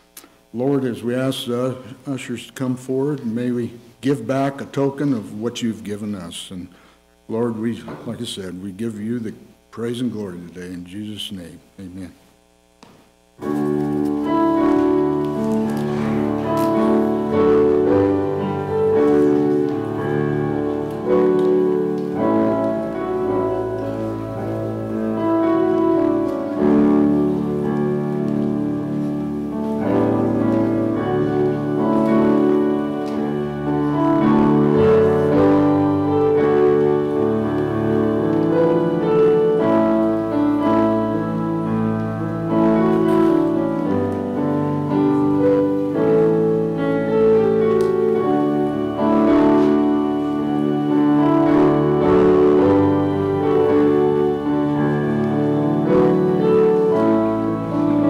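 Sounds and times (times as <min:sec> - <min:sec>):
piano playing slow chords: 0:11.4 - 0:58.0.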